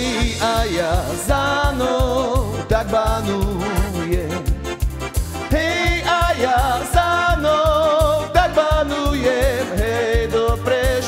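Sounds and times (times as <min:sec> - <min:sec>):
band music with vibrato melody: 0:00.0 - 0:11.0
keyboard bass notes and drums: 0:00.0 - 0:11.0.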